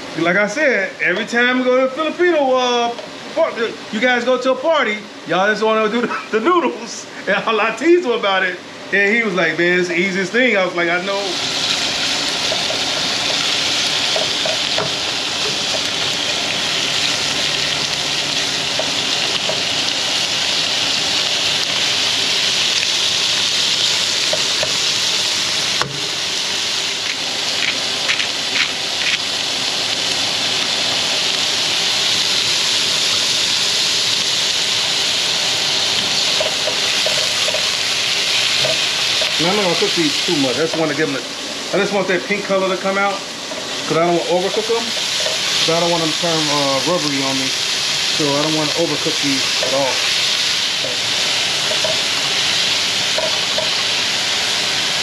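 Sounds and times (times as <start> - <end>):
shrimp sizzling in oil: 9.9 - 55.0.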